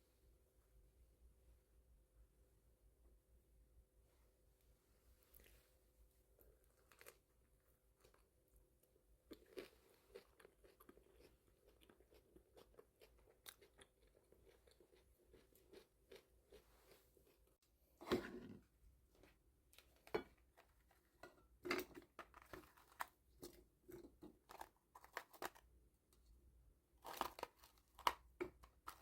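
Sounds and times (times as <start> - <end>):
crunching and chewing food: 5.2 - 29.0.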